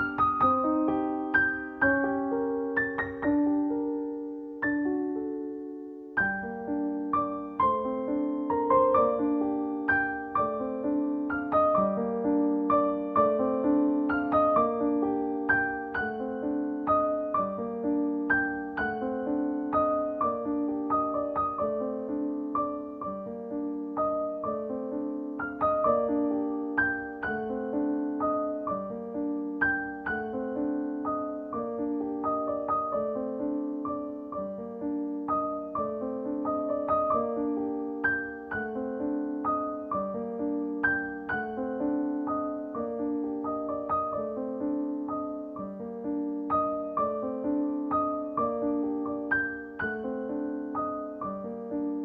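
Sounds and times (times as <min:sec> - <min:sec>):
gentle piano music: 0:00.0 - 0:52.0.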